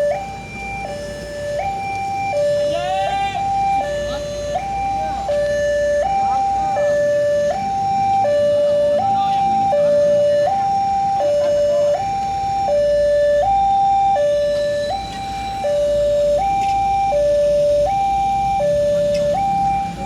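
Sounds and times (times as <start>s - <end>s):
two-tone crossing alarm: 0.0s - 20.0s.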